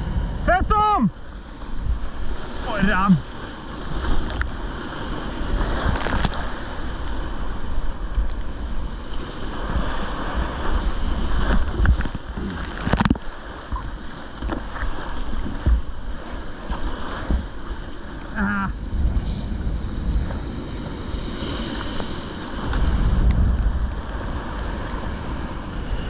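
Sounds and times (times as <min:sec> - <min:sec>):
sea surf breaking over rocks: 0:00.0 - 0:26.0
wind rumbling on microphone: 0:00.0 - 0:26.0.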